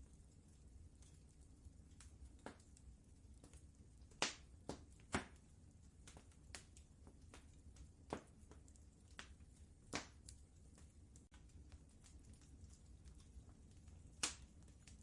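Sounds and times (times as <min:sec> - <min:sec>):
faint low rumble: 0:00.0 - 0:15.0
wood fire crackling: 0:00.0 - 0:15.0.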